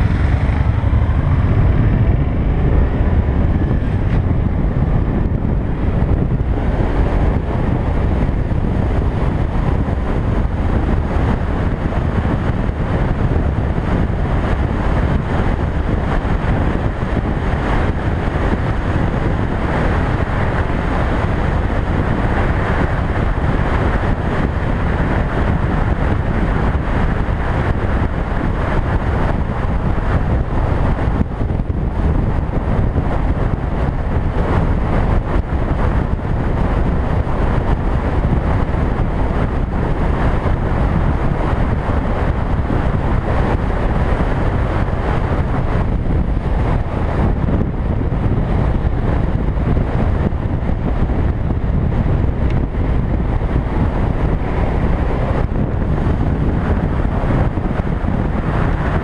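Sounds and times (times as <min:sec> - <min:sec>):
motorcycle running and road noise: 0:00.0 - 0:59.0
wind rush on microphone: 0:00.0 - 0:59.0.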